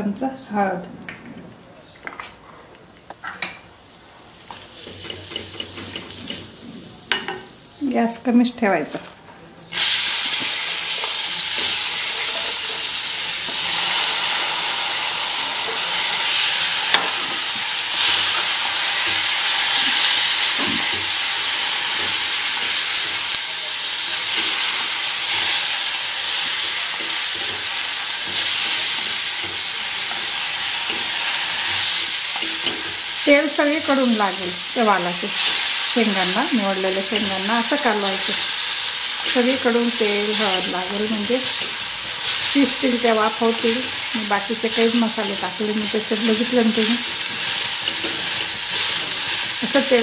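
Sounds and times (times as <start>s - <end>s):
beans sizzling in hot oil: 3.4s - 8.4s, 9.7s - 50.0s.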